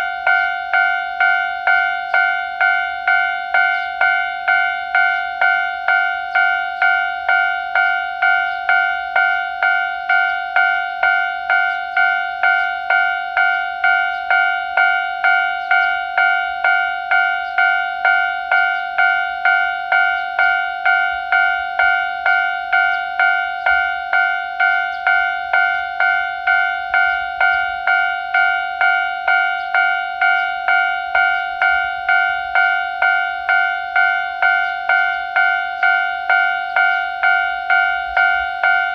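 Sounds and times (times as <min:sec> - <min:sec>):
level crossing bell ringing: 0:00.0 - 0:38.9.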